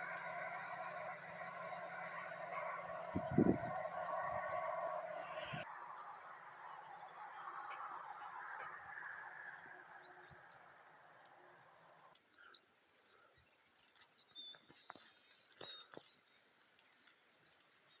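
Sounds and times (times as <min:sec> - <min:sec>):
bird calls: 0:00.0 - 0:18.0
insects chirping: 0:00.0 - 0:18.0.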